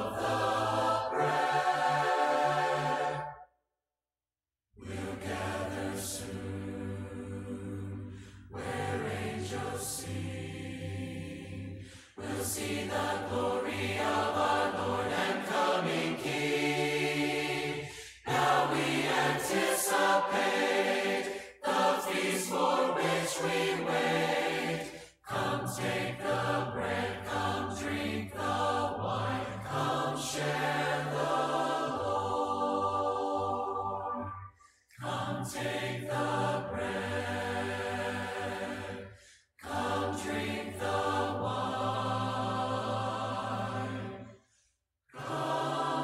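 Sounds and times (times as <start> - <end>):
choir singing a hymn: 0.0 - 3.4, 4.8 - 44.4, 45.1 - 46.0.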